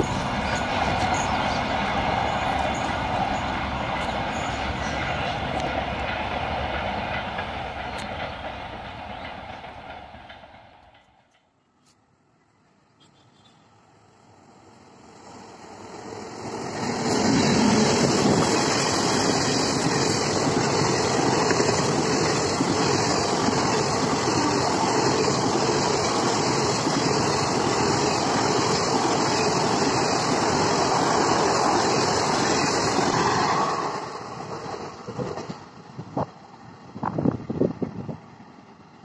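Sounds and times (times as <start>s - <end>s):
train passing at speed: 0.0s - 39.0s
wheels rushing on rail: 0.0s - 39.0s.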